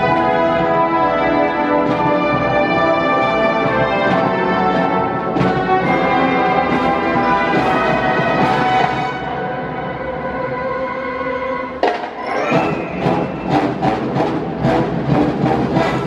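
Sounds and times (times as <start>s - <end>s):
percussion strikes: 0.0s - 9.5s, 11.8s - 16.0s
wind band playing brass chords: 0.0s - 16.0s.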